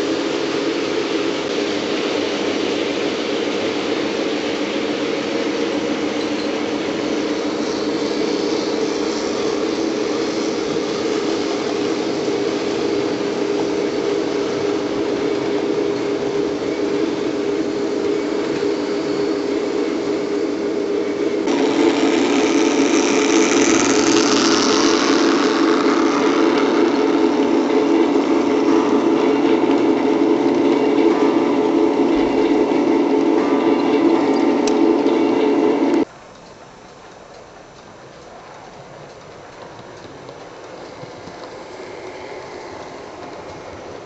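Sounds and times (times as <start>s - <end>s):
model diesel locomotive running: 0.0s - 36.4s, 37.1s - 44.0s.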